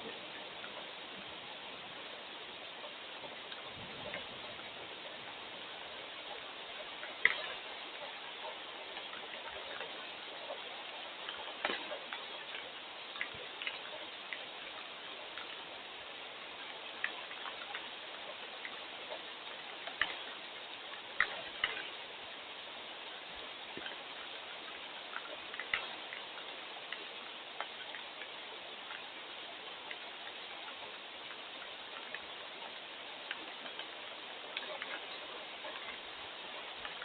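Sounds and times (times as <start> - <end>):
rain hiss: 0.0 - 37.0
raindrops ticking on surface: 0.0 - 37.0.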